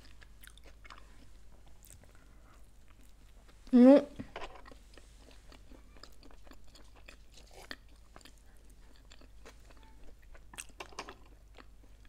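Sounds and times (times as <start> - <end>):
chewing crunchy chips: 0.0 - 3.6, 4.5 - 12.0.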